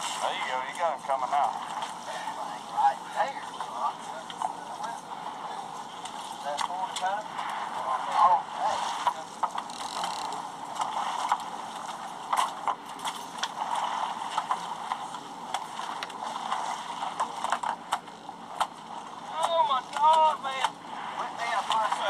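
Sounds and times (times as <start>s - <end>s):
boat rushing on water: 0.0s - 22.0s.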